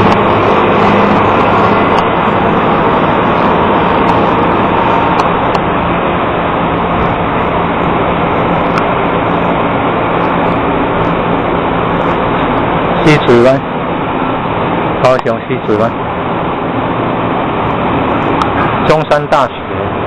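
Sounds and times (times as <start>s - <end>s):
loud rushing noise: 0.0s - 20.0s.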